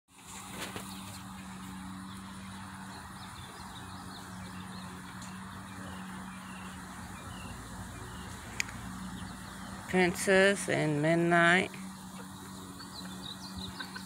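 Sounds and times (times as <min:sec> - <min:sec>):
steady low hum: 0:00.2 - 0:14.0
chickens chirping: 0:00.3 - 0:10.6, 0:11.8 - 0:14.0.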